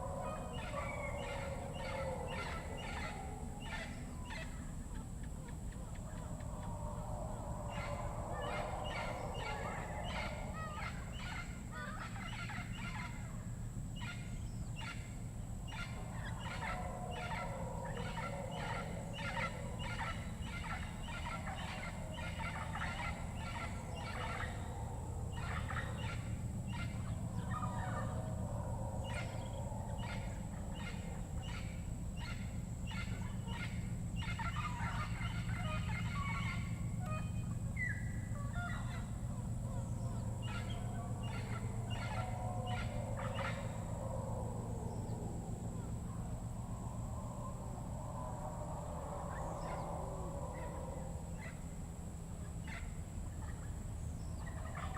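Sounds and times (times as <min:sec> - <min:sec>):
jungle birds chattering: 0:00.0 - 0:54.9.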